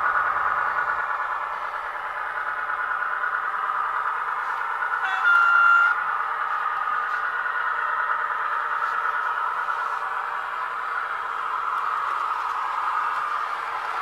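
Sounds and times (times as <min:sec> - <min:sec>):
model train diesel engine sound: 0:00.0 - 0:14.0.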